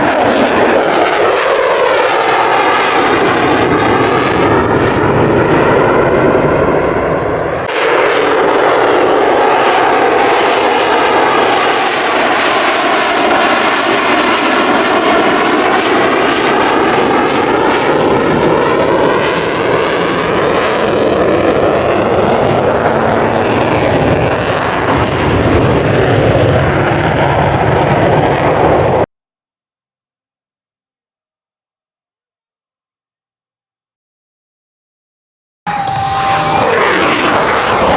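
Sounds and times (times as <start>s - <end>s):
airplane flying overhead: 0.0s - 29.0s, 35.7s - 37.9s.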